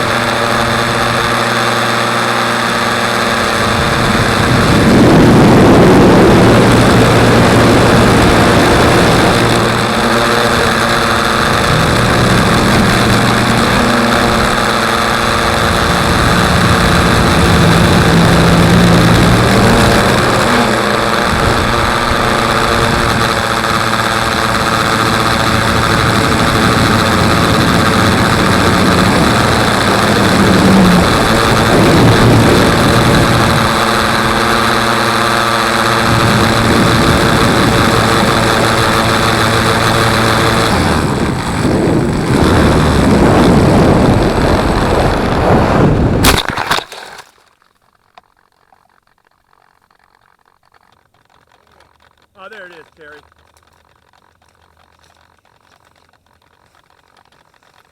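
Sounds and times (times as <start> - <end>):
motor spinning broken propeller: 0.0 - 57.9.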